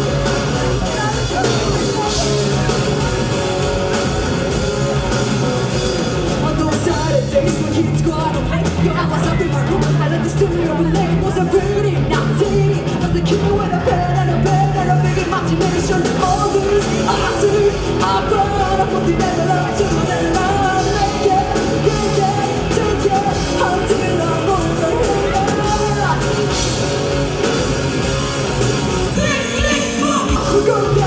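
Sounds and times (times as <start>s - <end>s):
bass guitar: 0.0s - 31.0s
distorted electric guitars: 0.0s - 31.0s
drums: 0.0s - 31.0s.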